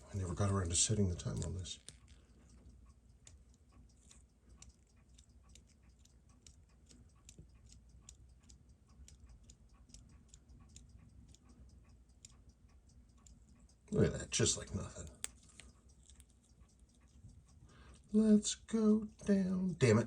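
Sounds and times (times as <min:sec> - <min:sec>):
wristwatch ticking: 0:00.0 - 0:20.0.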